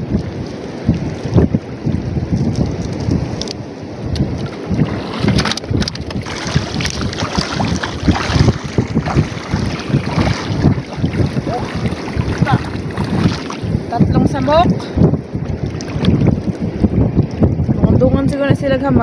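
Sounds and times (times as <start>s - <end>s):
shallow seawater washing: 0.0s - 19.0s
wind buffeting microphone: 0.0s - 19.0s.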